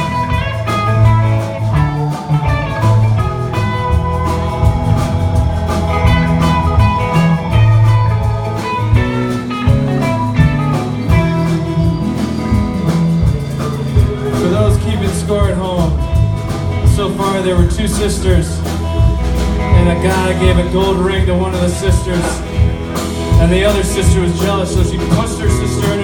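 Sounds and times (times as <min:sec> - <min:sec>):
band playing with lead guitar: 0:00.0 - 0:26.0.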